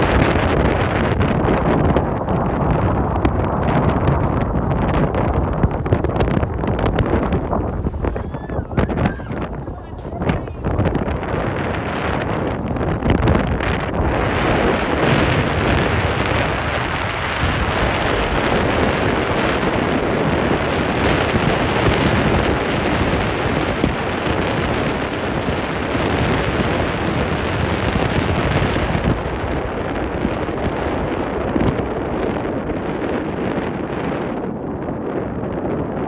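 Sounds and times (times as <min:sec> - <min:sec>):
wind blowing across microphone: 0:00.0 - 0:36.0.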